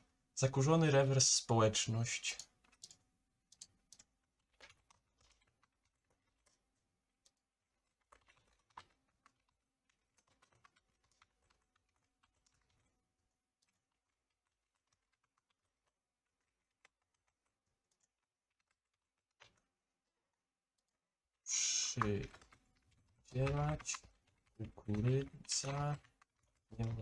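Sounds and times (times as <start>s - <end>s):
faint keyboard typing: 0.0s - 27.0s.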